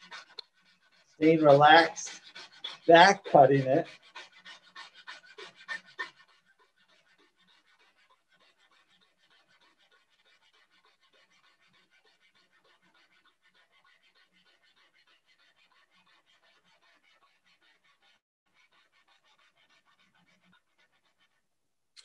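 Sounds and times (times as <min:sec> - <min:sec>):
coping saw cutting wood: 0:00.0 - 0:21.3.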